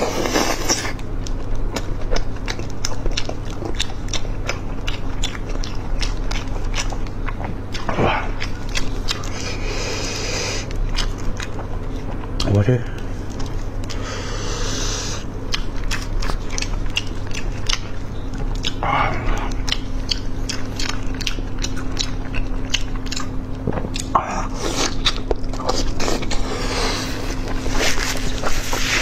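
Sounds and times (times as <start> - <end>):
wet chewing and smacking: 0.0 - 9.7, 10.6 - 14.0, 15.2 - 29.0
steady low hum: 0.0 - 29.0.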